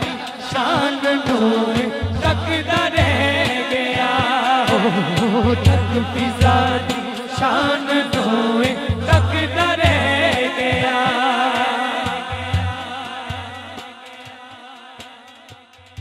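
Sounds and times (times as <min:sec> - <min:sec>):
men singing into microphones: 0:00.0 - 0:16.0.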